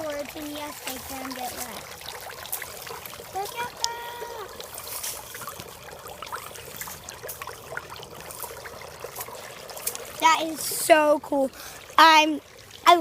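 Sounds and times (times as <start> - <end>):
small water drips: 0.0 - 13.0
water trickling: 0.0 - 13.0.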